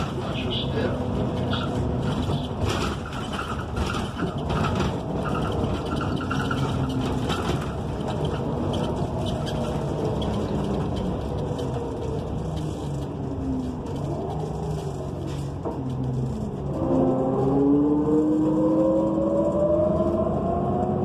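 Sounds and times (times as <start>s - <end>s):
bus engine running: 0.0s - 20.6s
road noise drone: 0.0s - 21.0s.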